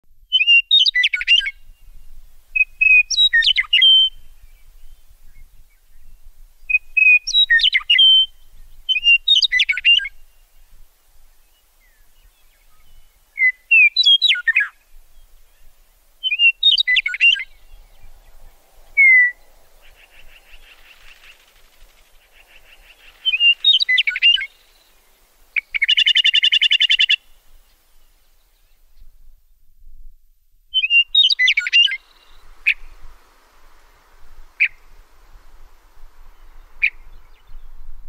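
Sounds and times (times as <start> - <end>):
bird singing whistles and warbles: 0.3 - 10.7, 11.5 - 29.1, 30.7 - 33.3, 34.5 - 34.9, 36.2 - 38.0.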